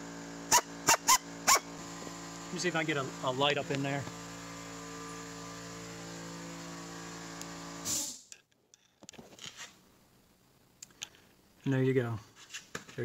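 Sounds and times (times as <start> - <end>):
electrical hum with hiss: 0.0 - 8.3, 9.2 - 13.0.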